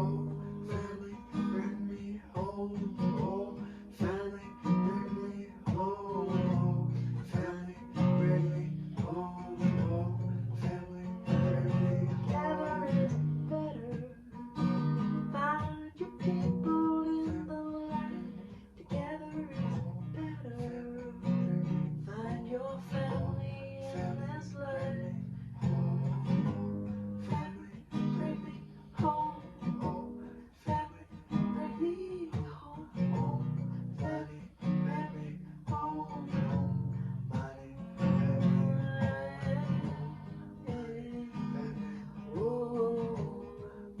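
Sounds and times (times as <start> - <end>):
acoustic guitar strummed: 0.0 - 44.0
person singing: 0.0 - 44.0.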